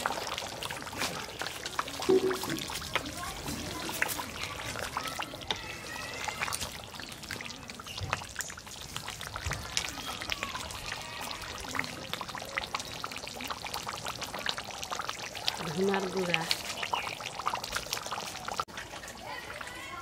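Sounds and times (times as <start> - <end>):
curry bubbling and sizzling: 0.0 - 20.0.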